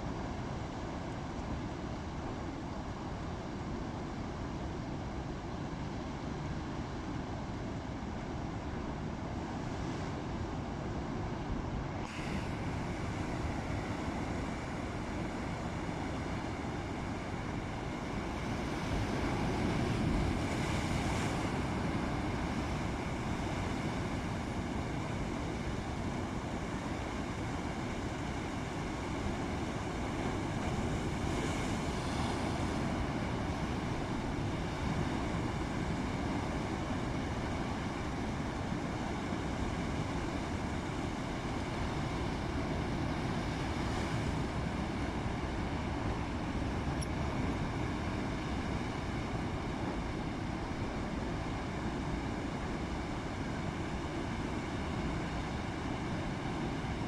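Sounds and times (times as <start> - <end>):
rough sea: 0.0 - 57.0.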